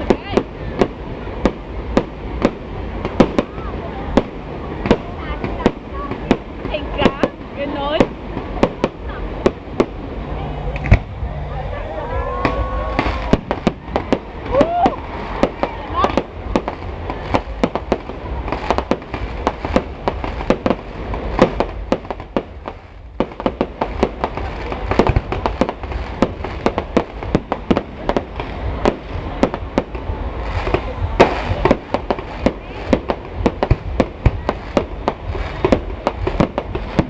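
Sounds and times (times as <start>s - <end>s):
fireworks bangs and crackles: 0.0s - 37.0s
steady low rumble: 0.0s - 37.0s.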